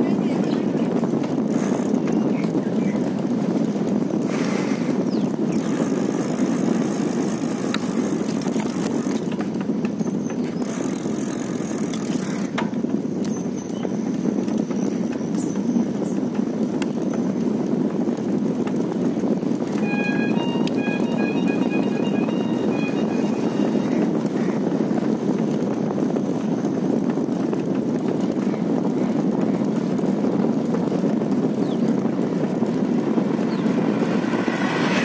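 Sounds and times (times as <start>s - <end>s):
vehicle driving on road: 0.0s - 35.0s.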